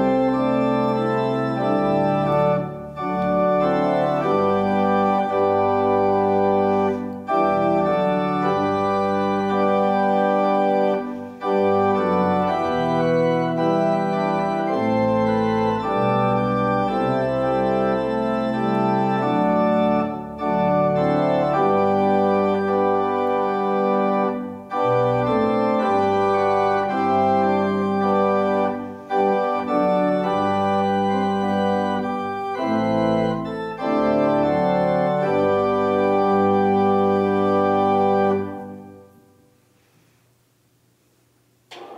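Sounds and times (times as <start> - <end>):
church organ chords: 0.0 - 39.6.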